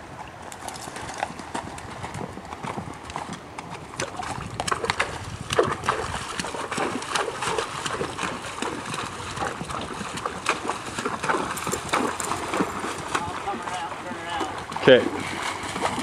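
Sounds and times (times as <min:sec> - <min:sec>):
horse hooves splashing in water: 0:00.0 - 0:16.0.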